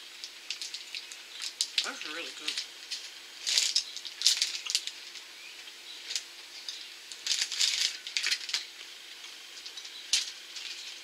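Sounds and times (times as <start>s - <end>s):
plastic wrapper crinkling: 0.2s - 5.3s, 6.0s - 11.0s.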